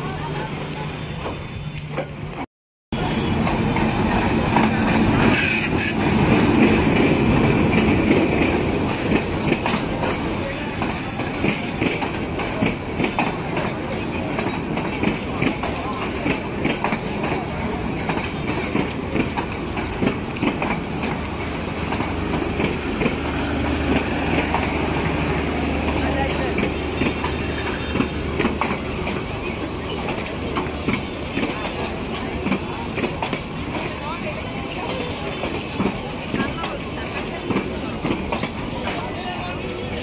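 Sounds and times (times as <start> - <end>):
train wheels clattering over rails: 3.0 - 40.0.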